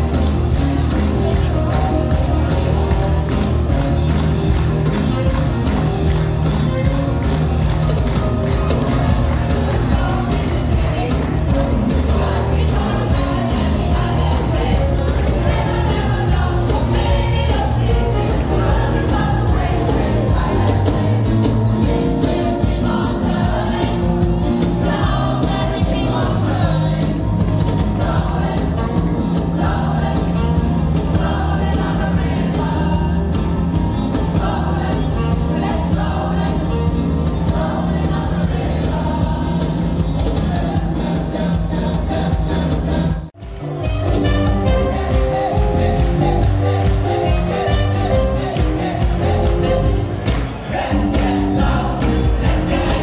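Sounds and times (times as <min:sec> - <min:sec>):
electric guitars: 0:00.0 - 0:53.0
mixed choir singing: 0:08.1 - 0:43.4, 0:44.5 - 0:53.0.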